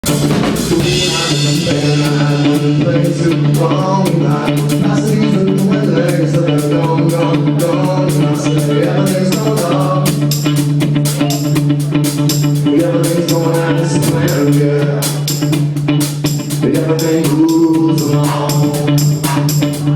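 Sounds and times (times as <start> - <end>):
drum kit beat: 0.0 - 19.9
live band playing: 0.0 - 19.9
stand-up bass line: 0.0 - 19.9.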